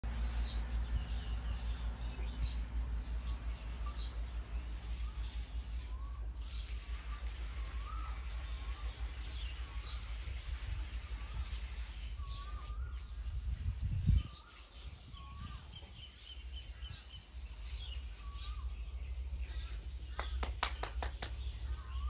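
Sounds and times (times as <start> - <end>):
birds calling: 0.0 - 22.0
high bird chirps: 0.1 - 22.0.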